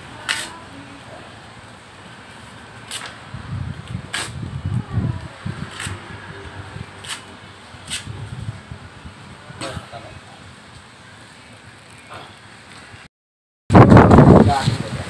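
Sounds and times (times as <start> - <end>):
fire crackles: 0.0 - 13.1
flames rushing: 0.1 - 13.0, 13.7 - 15.0.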